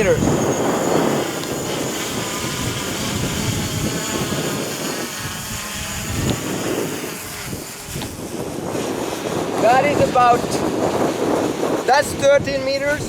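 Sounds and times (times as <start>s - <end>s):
drone propellers whining: 0.0s - 13.0s
wind buffeting microphone: 0.0s - 13.0s.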